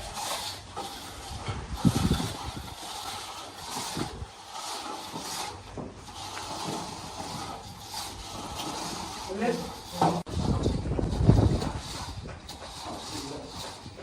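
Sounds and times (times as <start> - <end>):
swishing scrapes on floor: 0.0 - 14.0.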